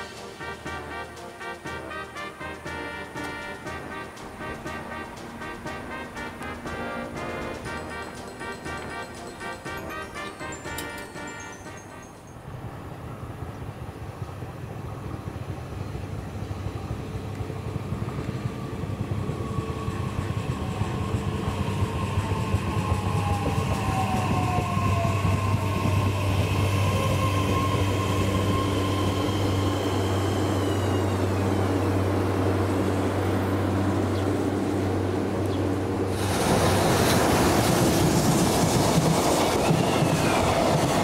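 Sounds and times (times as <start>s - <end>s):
electric train slowing down: 0.0s - 41.0s.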